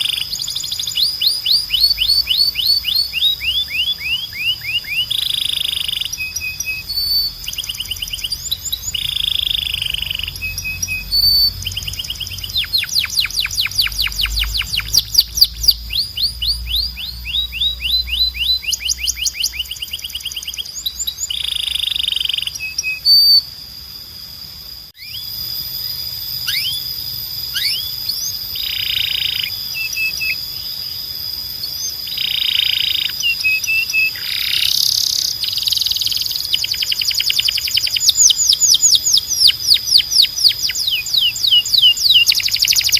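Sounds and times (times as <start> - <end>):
canary singing trills: 0.0 - 23.6, 25.0 - 42.9.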